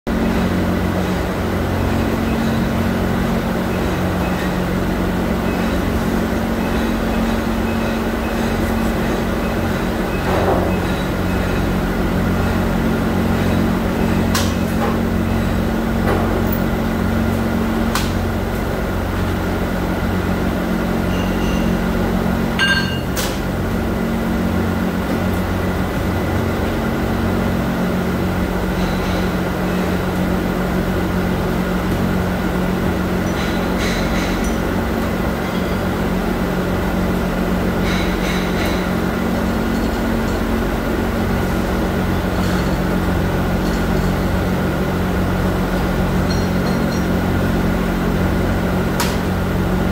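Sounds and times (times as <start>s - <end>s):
factory machinery humming: 0.1s - 49.9s
high machine whine: 0.1s - 49.9s.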